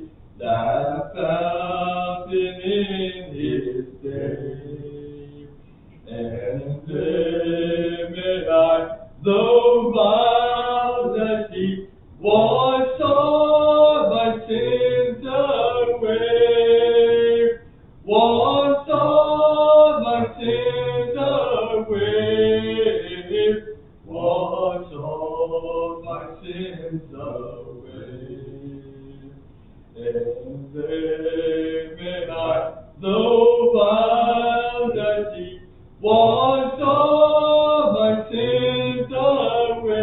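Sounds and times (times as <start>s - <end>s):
voices singing a hymn: 0.0s - 40.0s.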